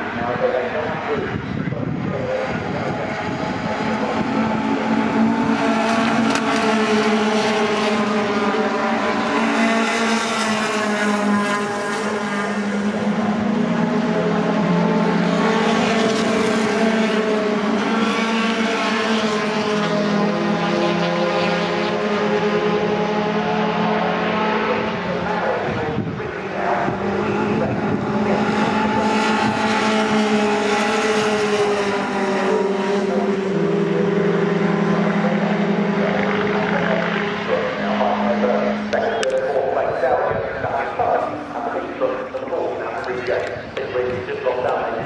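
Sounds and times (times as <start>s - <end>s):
racing truck engines: 0.0s - 45.0s.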